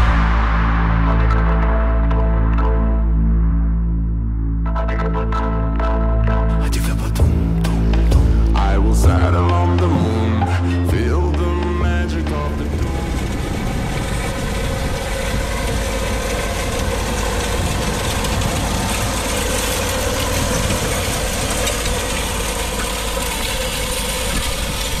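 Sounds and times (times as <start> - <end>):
tractor diesel engine running: 4.8 - 25.0.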